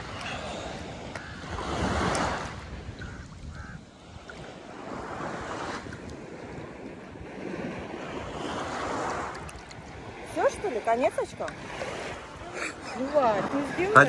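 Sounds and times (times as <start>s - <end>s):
sea surf washing onto beach: 0.0s - 14.0s
wind rumbling on microphone: 0.0s - 14.0s.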